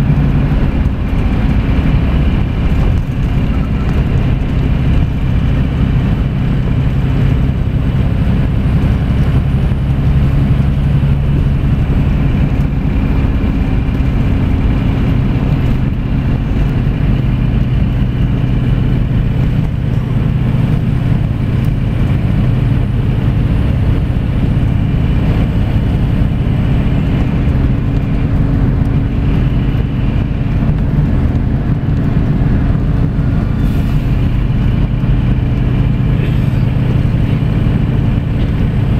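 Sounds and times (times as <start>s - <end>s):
diesel engine droning: 0.0s - 38.9s
tyre and road noise: 0.0s - 38.9s.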